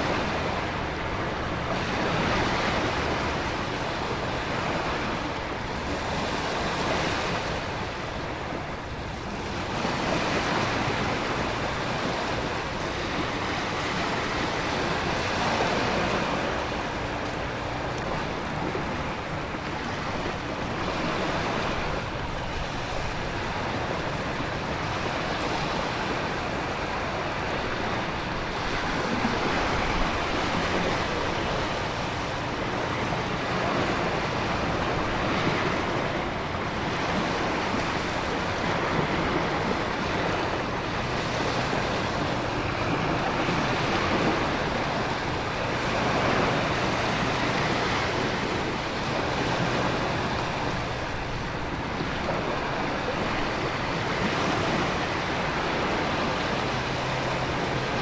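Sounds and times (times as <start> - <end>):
ocean surf: 0.0 - 58.0
wind: 0.0 - 58.0.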